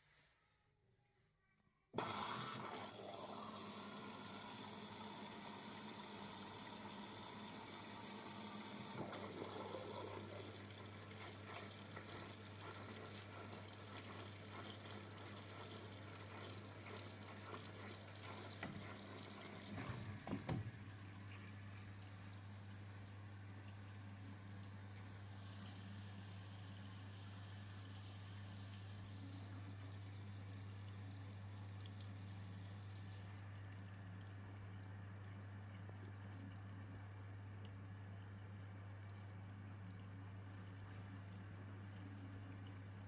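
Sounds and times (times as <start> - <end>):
water rushing into washing machine: 2.0 - 43.0.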